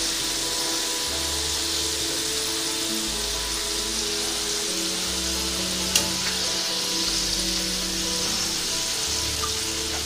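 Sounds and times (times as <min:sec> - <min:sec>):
hot oil sizzling: 0:00.0 - 0:10.0
soft background music: 0:00.0 - 0:10.0.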